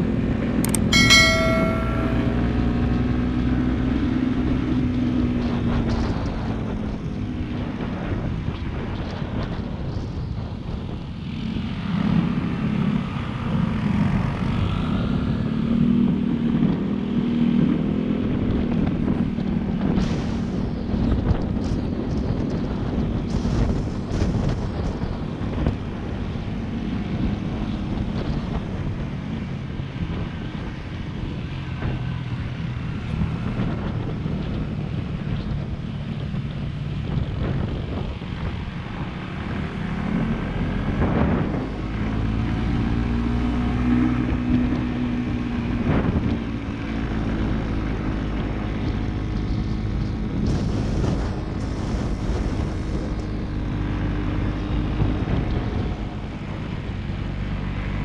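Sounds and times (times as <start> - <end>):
wind buffeting microphone: 4.3 - 58.0.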